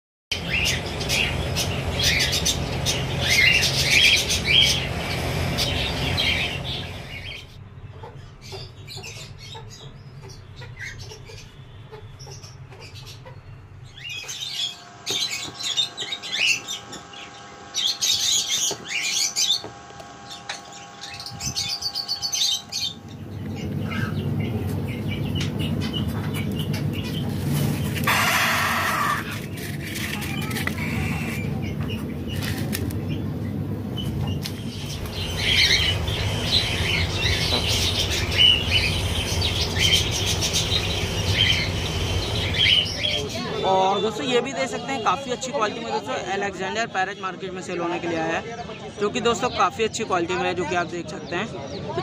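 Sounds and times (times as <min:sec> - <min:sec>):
cage birds chirping: 0:00.3 - 0:52.0.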